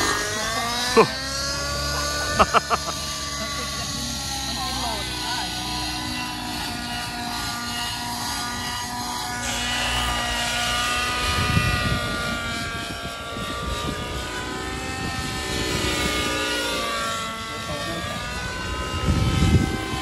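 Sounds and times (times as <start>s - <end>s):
model helicopter whining: 0.0s - 20.0s.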